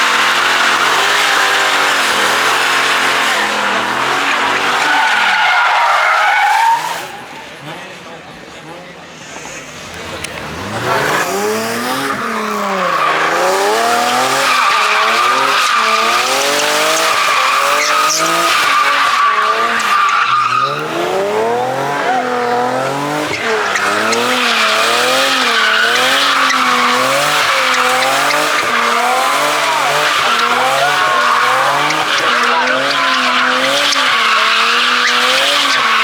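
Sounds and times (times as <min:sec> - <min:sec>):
engine revving: 0:00.0 - 0:04.8, 0:10.1 - 0:36.0
tires squealing on pavement: 0:00.0 - 0:07.8, 0:09.3 - 0:36.0.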